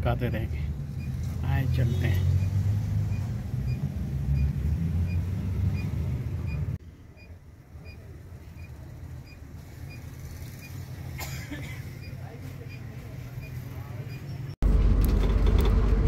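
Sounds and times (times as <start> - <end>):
bus engine rumble from inside: 0.0 - 16.0.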